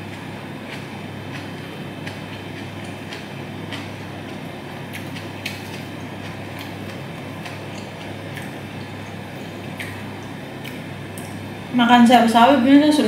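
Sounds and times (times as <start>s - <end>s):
person chewing food: 0.0s - 11.5s
steady low hum: 0.0s - 13.0s.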